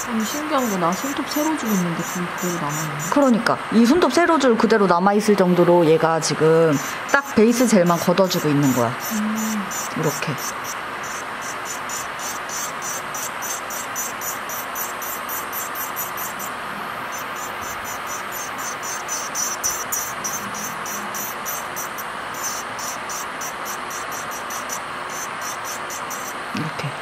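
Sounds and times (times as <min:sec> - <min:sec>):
electric nail drill whirring: 0:00.0 - 0:03.4, 0:06.8 - 0:26.4.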